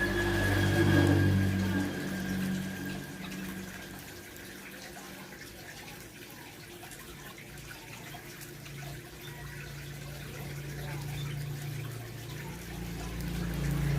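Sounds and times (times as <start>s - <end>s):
trickle of running water: 0.0s - 13.9s.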